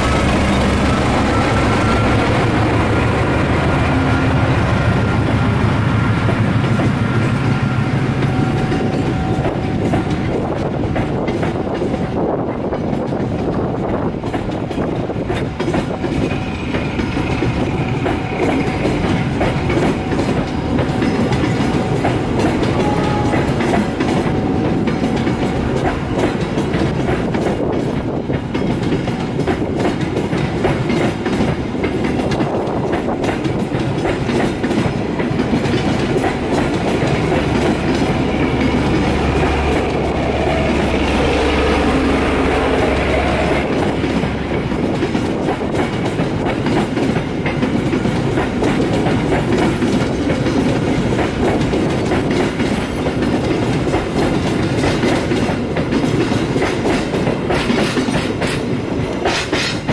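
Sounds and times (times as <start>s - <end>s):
diesel locomotive engine: 0.0s - 59.9s
train wheels clattering over rail joints: 0.0s - 59.9s.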